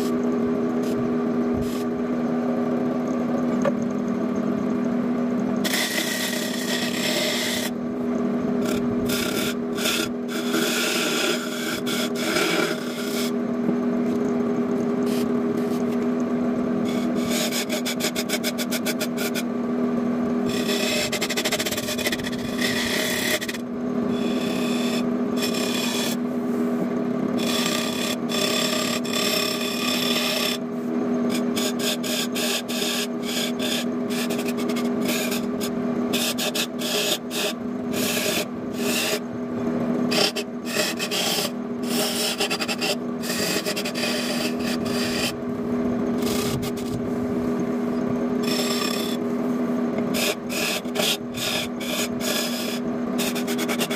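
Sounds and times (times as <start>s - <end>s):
chisel scraping spinning wood: 0.0s - 0.2s, 0.8s - 2.0s, 5.4s - 19.6s, 20.3s - 53.9s
lathe motor hum: 0.0s - 53.9s.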